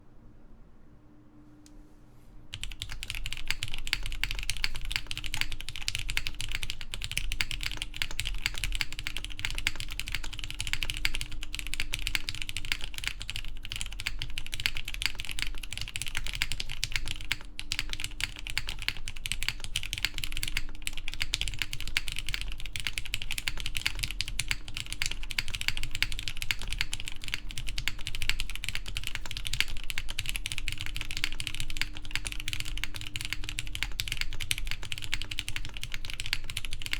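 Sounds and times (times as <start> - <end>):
mechanical keyboard typing: 2.5 - 36.9.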